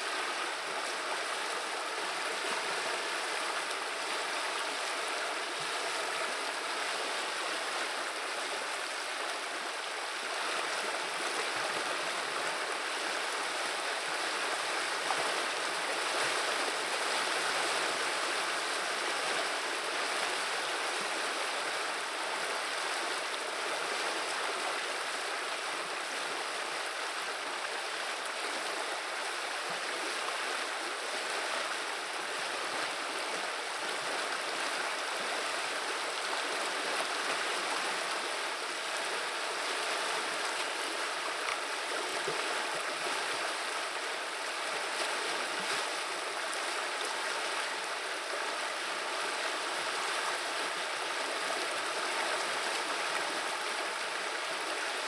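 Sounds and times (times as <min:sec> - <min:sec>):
river water babbling: 0:00.0 - 0:55.0.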